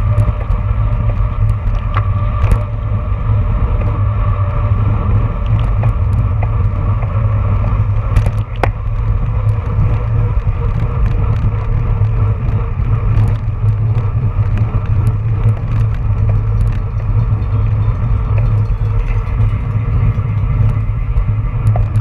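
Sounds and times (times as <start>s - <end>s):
bike clicks and rattles: 0.0s - 22.0s
tyre and road noise: 0.0s - 22.0s
wind buffeting microphone: 0.0s - 22.0s.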